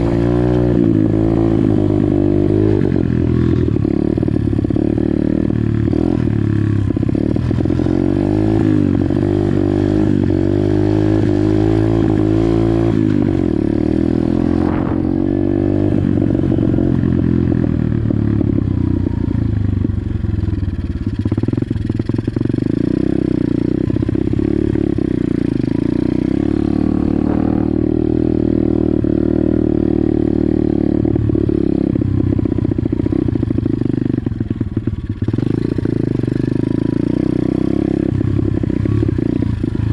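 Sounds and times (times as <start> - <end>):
pit bike engine revving: 0.0 - 19.8, 20.5 - 39.9.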